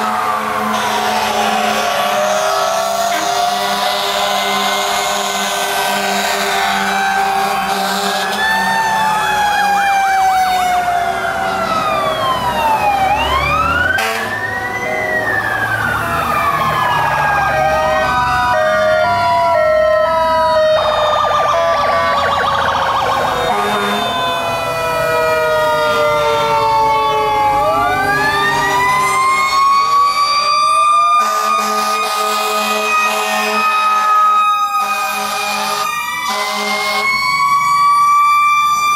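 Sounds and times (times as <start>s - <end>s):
fire truck sirens wailing: 0.0s - 38.9s.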